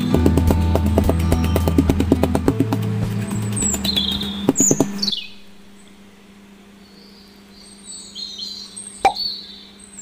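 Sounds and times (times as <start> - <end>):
birds chirping: 0.0 - 10.0
faint steady hum: 0.0 - 10.0.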